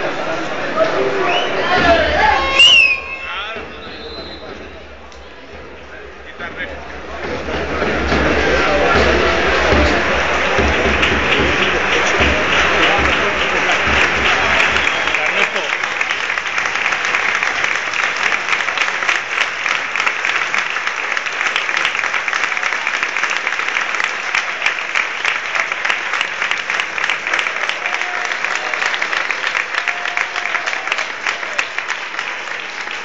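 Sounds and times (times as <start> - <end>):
stadium crowd clapping: 0.0 - 33.0.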